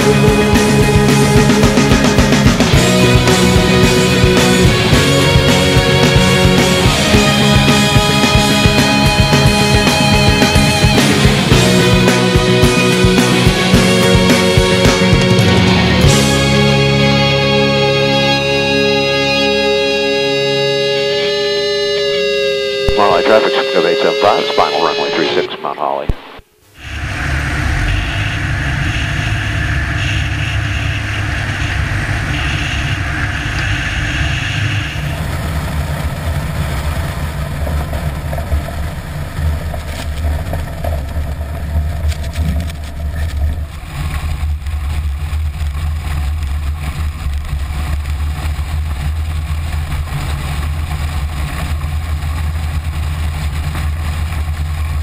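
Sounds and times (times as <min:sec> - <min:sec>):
airplane engine and propeller: 0:00.0 - 0:55.0.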